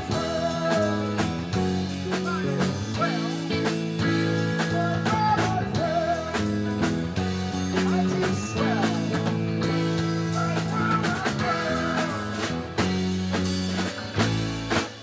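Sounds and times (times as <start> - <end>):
drum kit: 0.0 - 15.0
electric bass: 0.0 - 15.0
electric guitars: 0.0 - 15.0
keyboard: 0.0 - 15.0.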